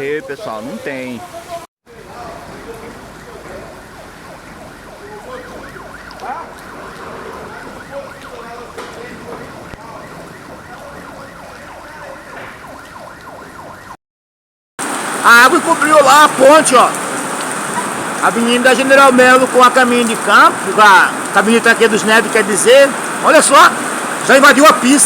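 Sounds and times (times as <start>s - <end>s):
flooding water rushing: 0.0s - 13.9s, 14.8s - 25.0s
rain: 0.0s - 14.0s, 14.8s - 25.0s.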